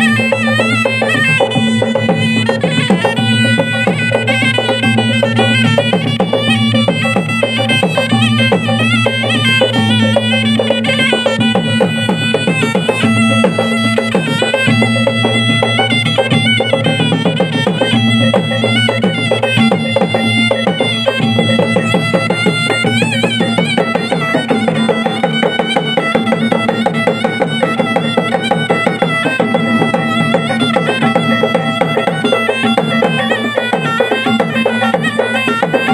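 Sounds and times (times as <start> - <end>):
drums beating fast rhythms: 0.0 - 35.9
reed pipe wavering melody: 0.0 - 35.9.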